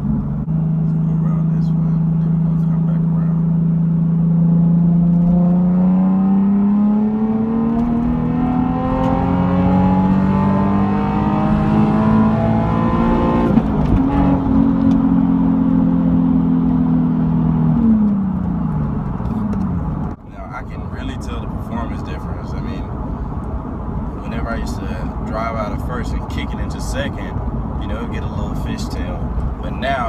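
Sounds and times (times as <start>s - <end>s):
car engine revving through exhaust: 0.0s - 30.0s.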